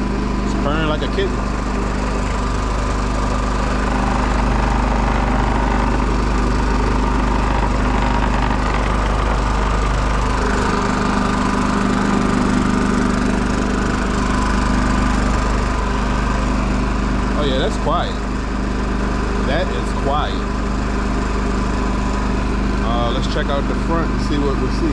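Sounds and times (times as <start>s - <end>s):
generator running steadily: 0.0s - 24.9s.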